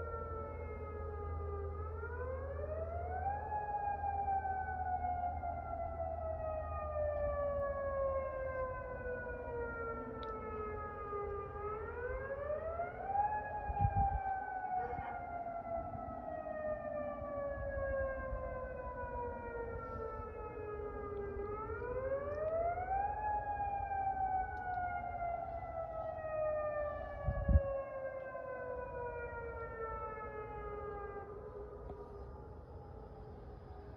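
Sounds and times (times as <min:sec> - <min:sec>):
warning siren wailing: 0:00.0 - 0:33.9.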